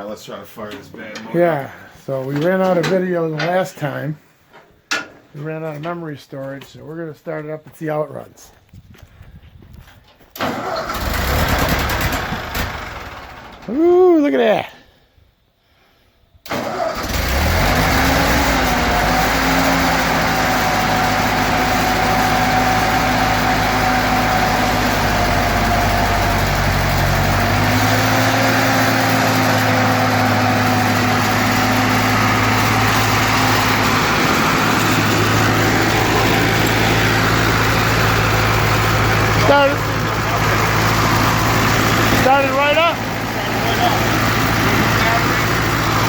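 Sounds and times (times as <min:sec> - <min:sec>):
tractor engine starting and running: 0:00.0 - 0:04.1, 0:09.7 - 0:14.6, 0:16.4 - 0:46.0.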